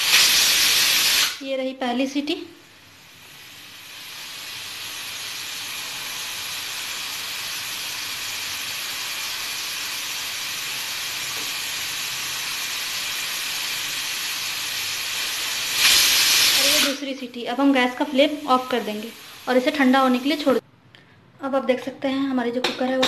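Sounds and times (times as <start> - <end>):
pressure cooker hissing steam: 0.0 - 1.5, 2.6 - 20.6.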